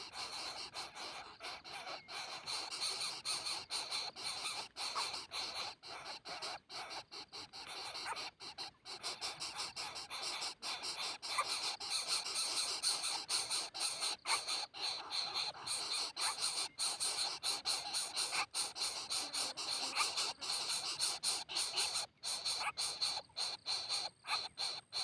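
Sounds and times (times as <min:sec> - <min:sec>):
nestlings squealing begging calls: 0:00.0 - 0:25.0.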